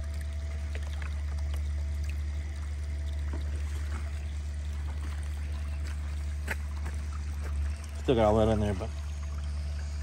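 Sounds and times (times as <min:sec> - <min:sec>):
faint splashes: 0:00.0 - 0:10.0
steady low rumble: 0:00.0 - 0:10.0
water sloshing and trickling: 0:00.0 - 0:10.0.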